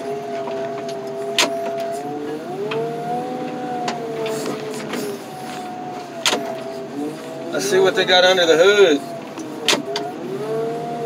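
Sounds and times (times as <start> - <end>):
loader engine running: 0.0 - 11.0.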